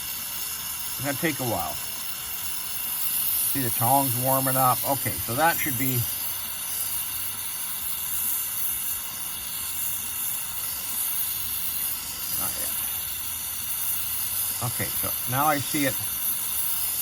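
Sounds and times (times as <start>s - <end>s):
torch flame hissing: 0.0s - 17.0s.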